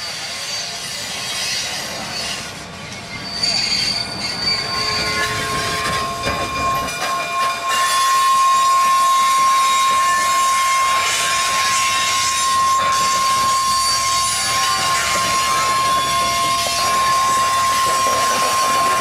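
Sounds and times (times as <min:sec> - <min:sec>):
train wheels squealing on rails: 0:00.0 - 0:19.0.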